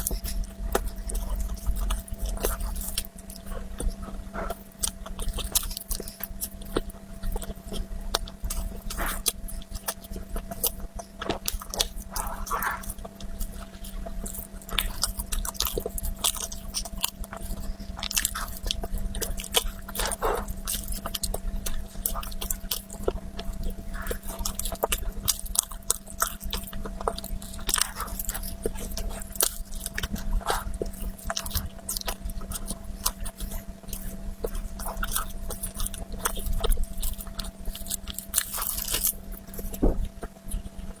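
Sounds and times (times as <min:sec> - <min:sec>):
chewing and crunching: 0:00.0 - 0:41.0
faint steady hum: 0:00.0 - 0:41.0.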